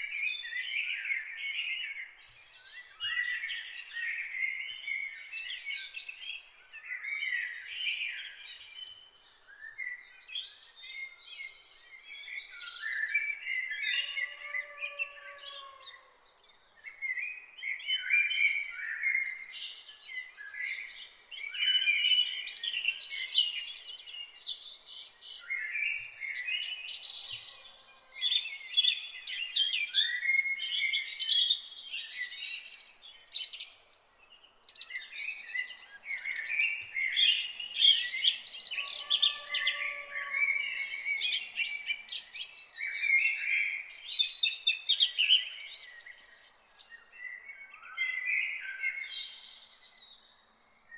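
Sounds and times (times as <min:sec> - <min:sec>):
songbirds chorus: 0:00.0 - 0:50.9.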